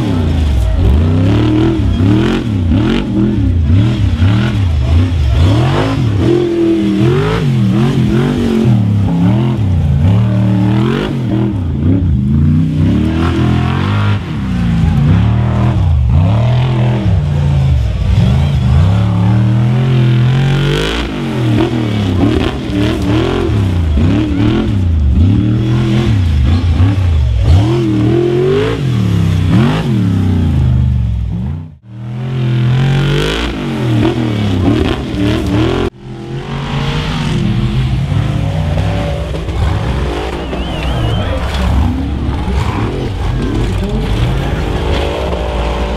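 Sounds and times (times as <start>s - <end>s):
buggy engine revving: 0.0s - 45.9s.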